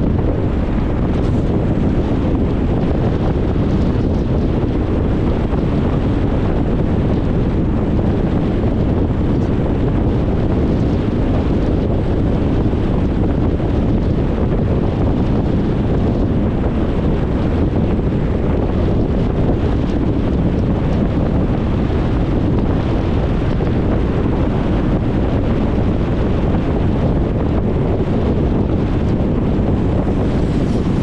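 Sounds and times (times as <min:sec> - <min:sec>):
car road noise: 0:00.0 - 0:31.0.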